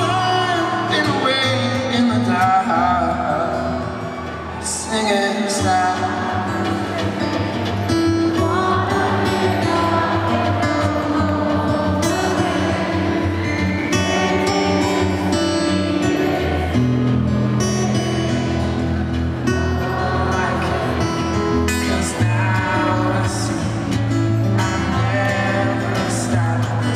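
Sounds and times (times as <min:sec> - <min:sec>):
acoustic guitar and band: 0:00.0 - 0:26.9
man singing live: 0:00.0 - 0:26.9.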